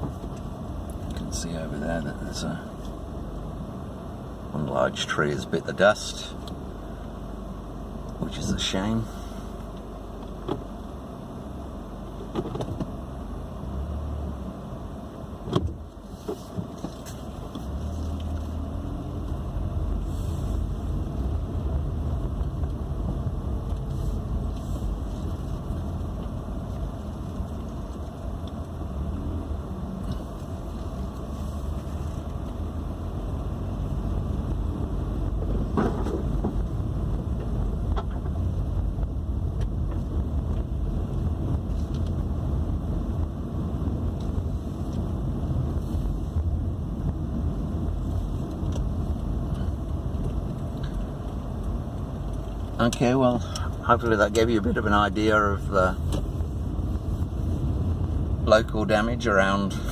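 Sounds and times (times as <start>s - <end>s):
road and engine rumble: 0.0s - 59.9s.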